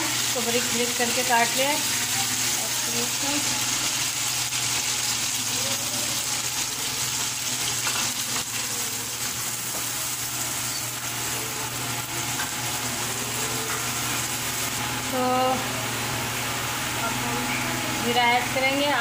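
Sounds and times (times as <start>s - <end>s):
onion sizzling in hot oil: 0.0s - 19.0s.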